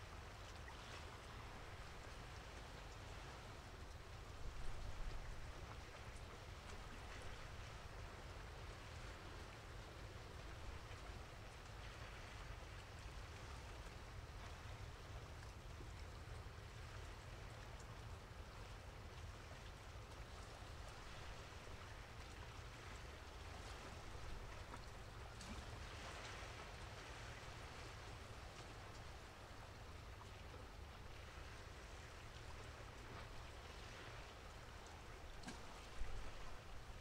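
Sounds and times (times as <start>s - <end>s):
light rain hiss: 0.0s - 37.0s.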